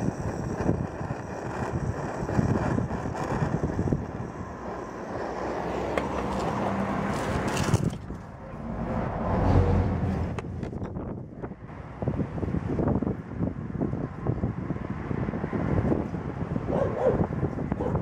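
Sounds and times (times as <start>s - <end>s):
torch flame rushing: 0.0s - 16.7s.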